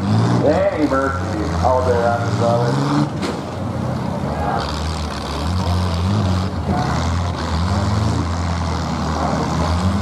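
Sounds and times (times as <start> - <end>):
car engines rumbling and revving: 0.0 - 10.0.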